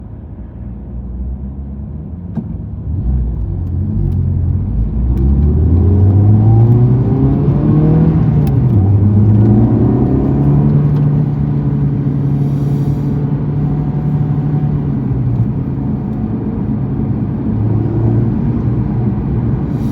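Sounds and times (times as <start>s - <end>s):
car engine accelerating: 2.7s - 19.9s.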